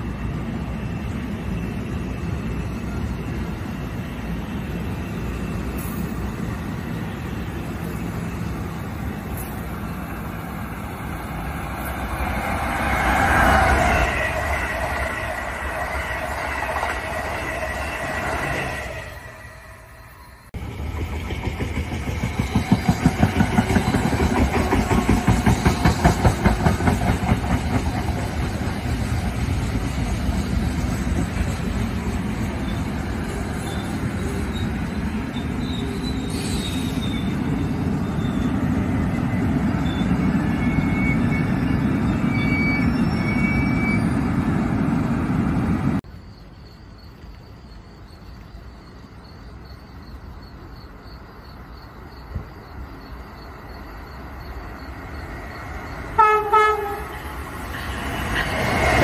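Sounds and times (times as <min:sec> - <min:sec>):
crickets chirping: 0:00.0 - 0:59.0
train passing with wheel clatter: 0:00.0 - 0:59.0.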